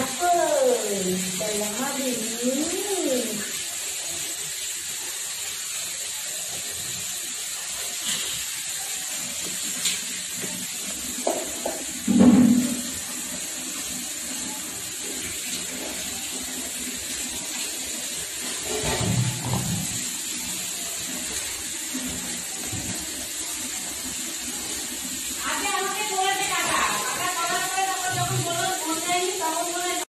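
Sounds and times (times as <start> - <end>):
steady watery hiss: 0.0 - 30.0.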